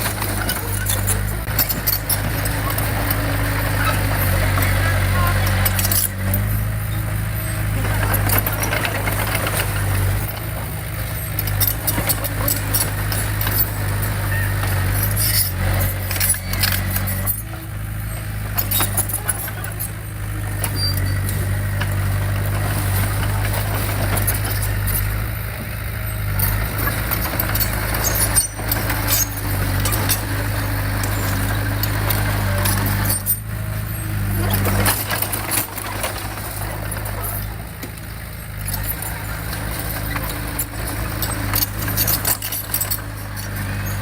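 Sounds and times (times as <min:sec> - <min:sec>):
heavy diesel engine running: 0:00.0 - 0:44.0
metallic clanks and rattles: 0:00.0 - 0:44.0.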